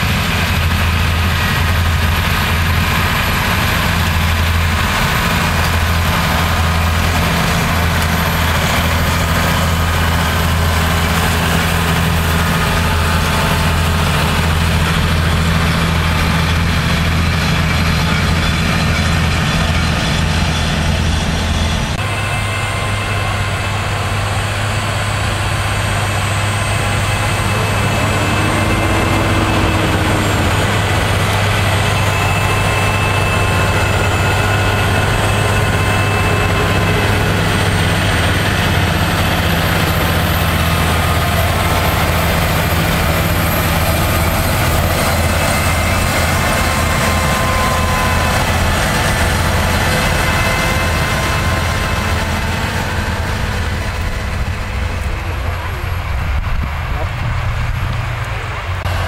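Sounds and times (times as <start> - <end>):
tractor diesel engines under load: 0.0 - 59.0.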